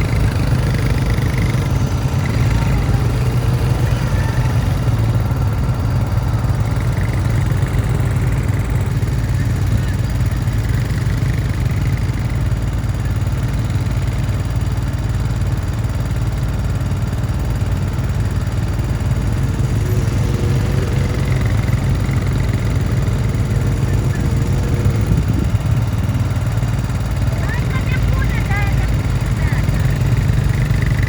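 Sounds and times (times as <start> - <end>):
quad bike engines running: 0.0 - 31.0.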